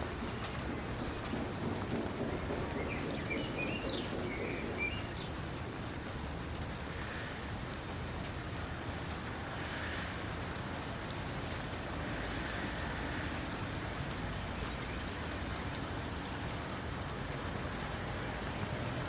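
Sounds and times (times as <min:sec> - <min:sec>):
rain falling: 0:00.0 - 0:19.0
raindrops ticking: 0:00.0 - 0:19.0.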